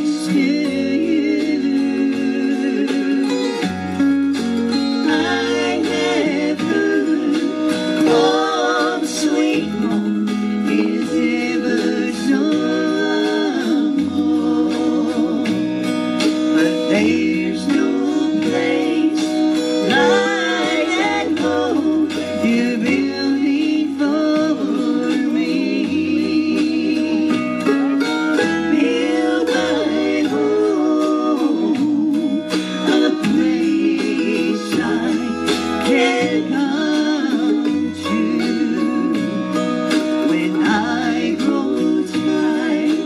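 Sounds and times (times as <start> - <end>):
person singing: 0.0 - 3.8, 4.8 - 43.0
acoustic guitar: 0.0 - 43.0
bass line: 0.0 - 43.0.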